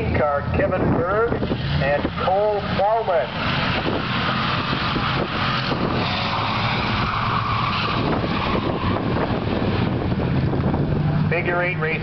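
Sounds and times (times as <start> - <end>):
race car engine running: 0.0 - 12.0.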